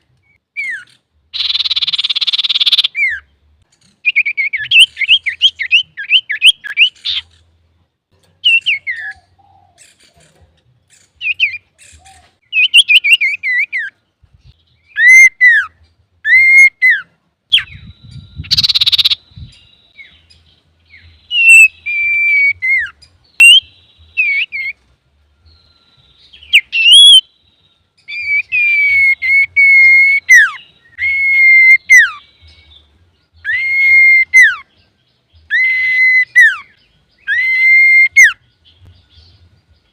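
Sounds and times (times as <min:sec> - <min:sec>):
bird singing chirps and whistles: 0:00.2 - 0:03.3, 0:04.0 - 0:07.4, 0:08.4 - 0:09.9, 0:11.0 - 0:24.8, 0:25.4 - 0:39.9.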